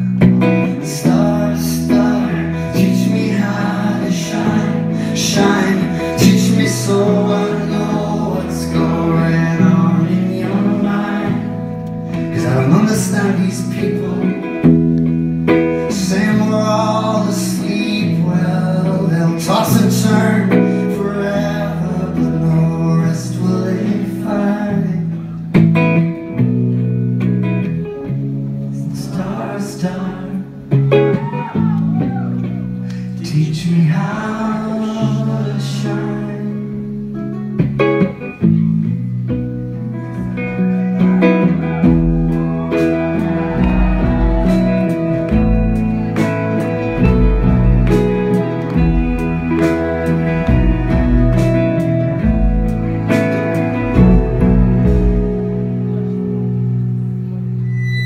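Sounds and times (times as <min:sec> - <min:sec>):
man singing: 0:00.0 - 0:14.7, 0:15.6 - 0:25.4, 0:28.7 - 0:32.2, 0:33.2 - 0:36.9, 0:40.2 - 0:55.6
bass: 0:00.0 - 0:58.0
strummed electric guitar: 0:00.0 - 0:58.0.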